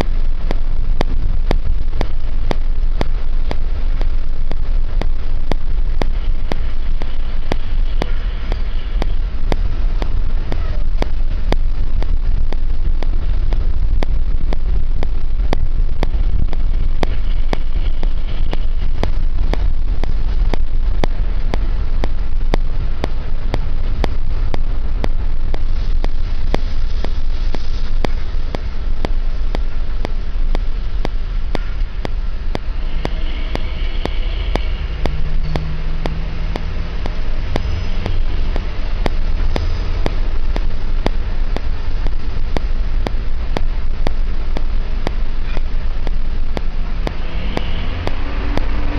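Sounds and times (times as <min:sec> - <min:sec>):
vehicle road and engine rumble: 0:00.0 - 0:48.9.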